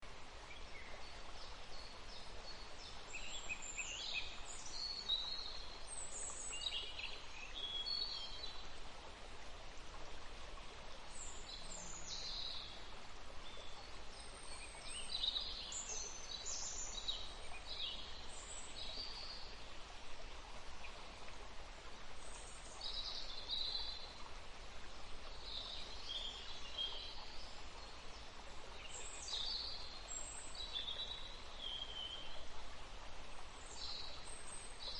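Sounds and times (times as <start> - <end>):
soft forest noise: 0.0 - 34.9.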